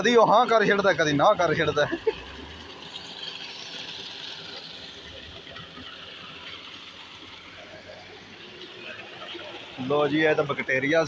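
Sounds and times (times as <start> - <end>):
water rushing into channel: 0.0 - 11.0.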